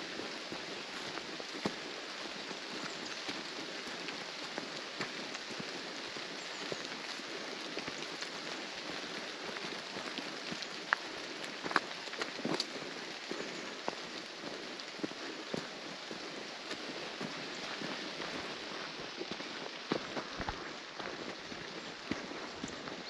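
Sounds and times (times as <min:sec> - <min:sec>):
raindrops ticking close: 0:00.0 - 0:23.0
steady rain hissing: 0:00.0 - 0:23.0.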